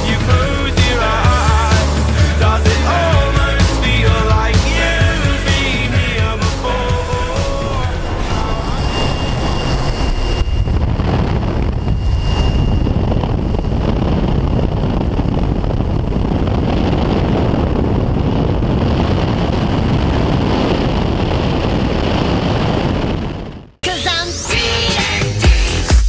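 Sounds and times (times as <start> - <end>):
wind buffeting microphone: 0.0 - 23.8
aircraft engine running: 0.0 - 24.4.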